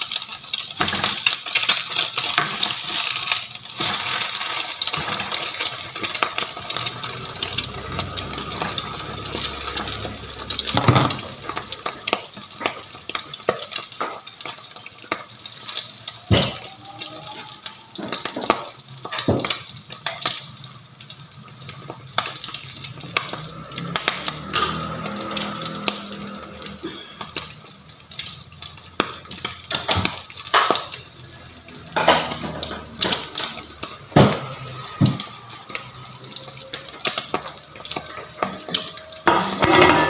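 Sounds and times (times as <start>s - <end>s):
pancake sizzling in oil: 0.0s - 40.0s.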